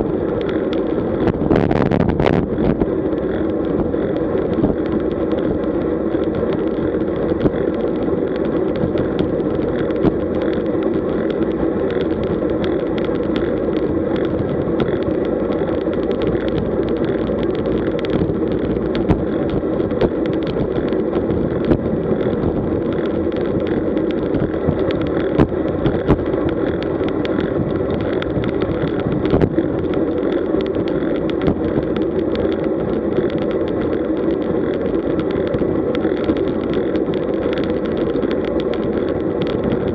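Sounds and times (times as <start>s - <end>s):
clicks and knocks from road bumps: 0.0s - 39.9s
tyre and wind noise: 0.0s - 39.9s.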